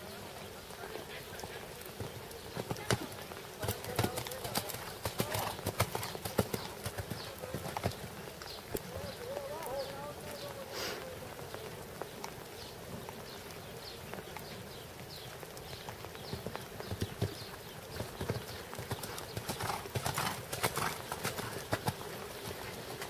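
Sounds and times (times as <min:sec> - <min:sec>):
horse hoofbeats cantering on sand: 0:01.4 - 0:10.6, 0:11.6 - 0:23.0.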